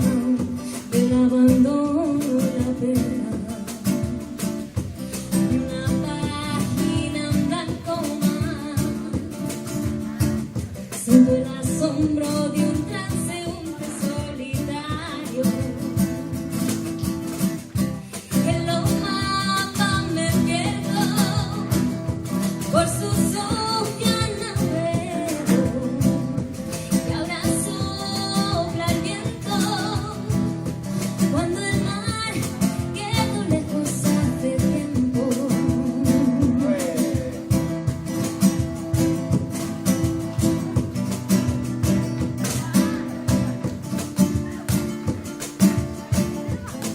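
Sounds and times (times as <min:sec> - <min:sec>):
acoustic guitar strummed and picked: 0:00.0 - 0:46.9
cajon beats: 0:00.0 - 0:46.9.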